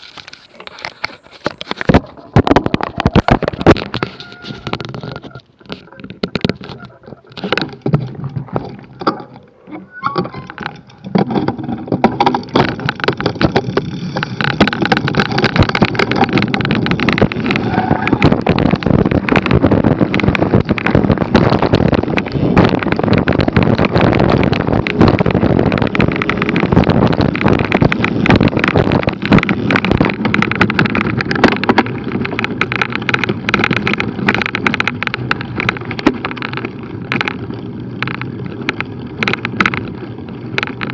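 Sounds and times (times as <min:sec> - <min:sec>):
mountain bike rattling: 0:00.0 - 0:40.9
tyre rumble: 0:00.0 - 0:40.9.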